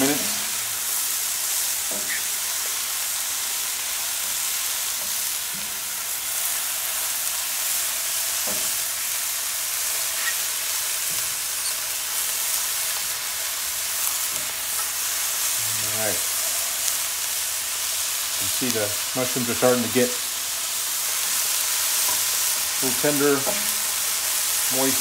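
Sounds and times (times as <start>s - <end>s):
vegetables sizzling in a skillet: 0.0s - 25.0s.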